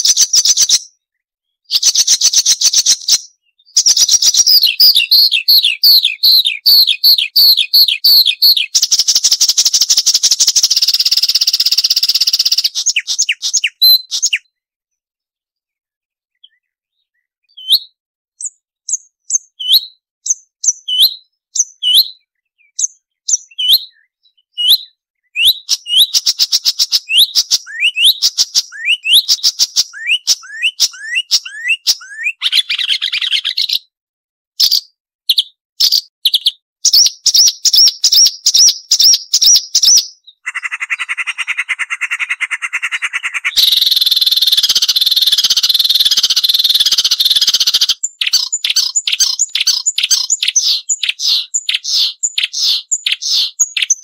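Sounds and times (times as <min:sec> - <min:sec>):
warbler singing: 0:00.0 - 0:33.9, 0:34.6 - 0:54.0.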